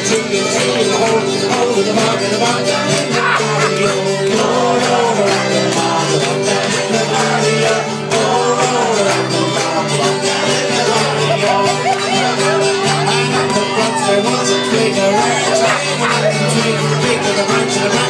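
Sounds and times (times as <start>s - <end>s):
men singing into a microphone: 0.0s - 18.0s
strummed string instrument: 0.0s - 18.0s.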